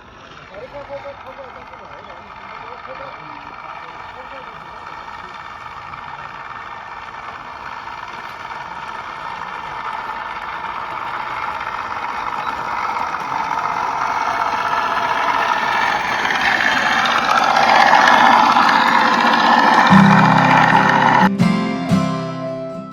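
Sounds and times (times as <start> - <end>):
model aircraft engine: 0.0 - 21.3.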